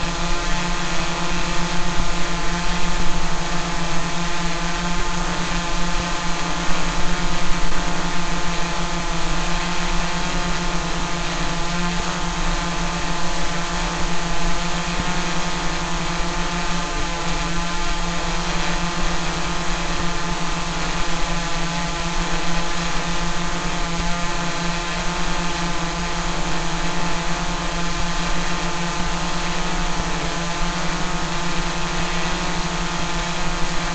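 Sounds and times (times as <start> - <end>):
drone propellers buzzing: 0.0 - 33.9.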